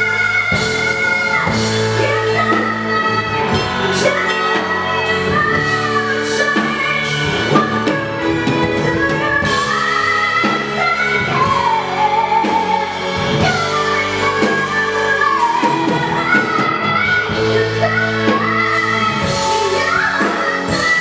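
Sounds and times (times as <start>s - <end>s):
drum kit: 0.0s - 21.0s
keyboard: 0.0s - 21.0s
person singing: 0.0s - 21.0s.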